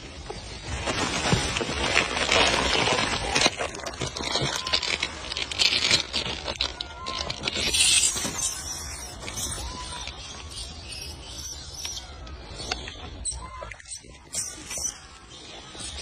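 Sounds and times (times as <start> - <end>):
rustling and crackling: 0.0 - 16.0.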